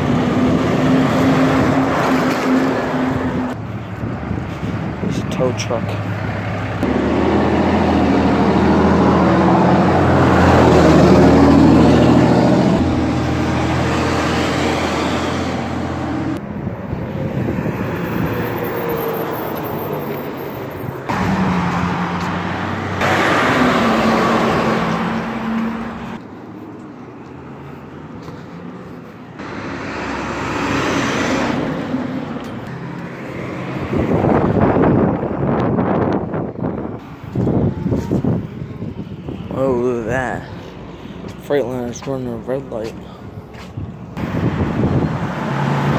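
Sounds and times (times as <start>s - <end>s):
heavy trucks driving past: 0.0s - 45.9s.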